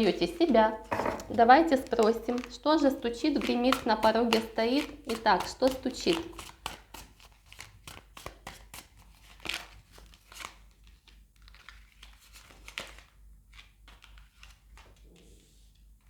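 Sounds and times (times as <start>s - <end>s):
cards being shuffled: 0.1s - 15.0s.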